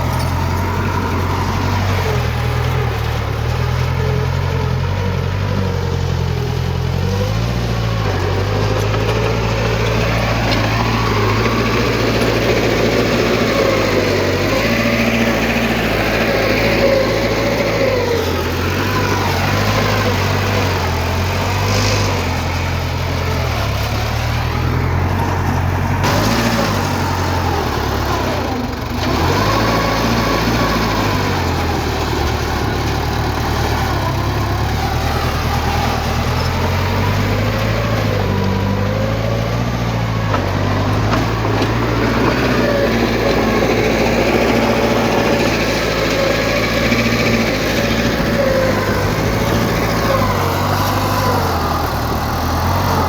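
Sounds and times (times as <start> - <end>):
heavy machinery diesel engines: 0.0 - 53.0.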